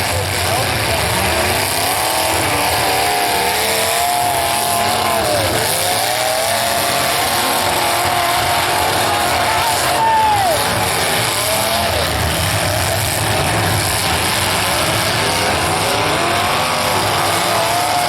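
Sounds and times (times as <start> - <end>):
car engines revving: 0.0 - 18.0
loud din: 0.0 - 18.0.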